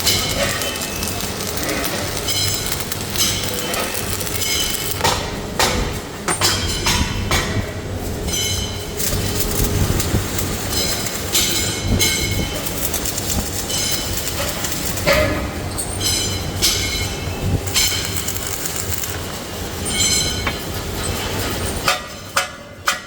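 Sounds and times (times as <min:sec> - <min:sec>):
machinery mechanical rumble: 0:00.0 - 0:21.9.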